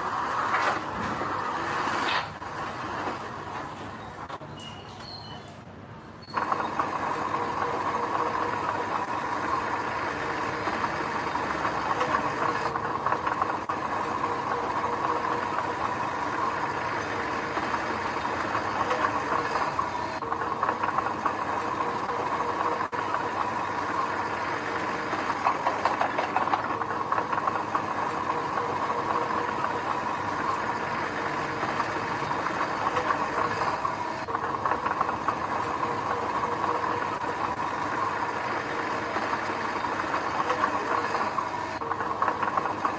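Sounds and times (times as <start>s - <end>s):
heavy machinery engine drone: 0.0s - 42.9s.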